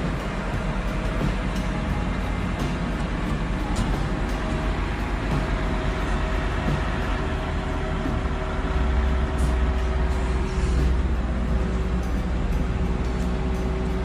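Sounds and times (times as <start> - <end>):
large engine low rumble: 0.0 - 14.0.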